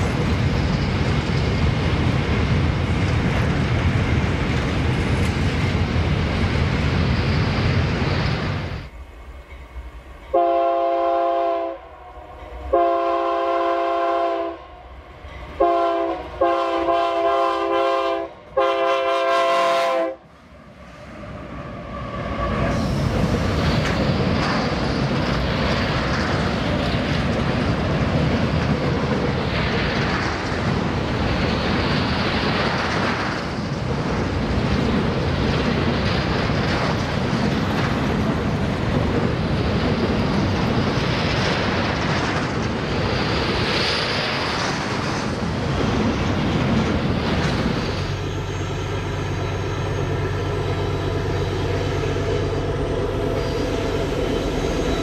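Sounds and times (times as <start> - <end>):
train cars clattering: 0.0 - 11.6, 21.2 - 55.0
diesel locomotives droning: 0.0 - 55.0
freight train wheels rumbling: 0.0 - 55.0.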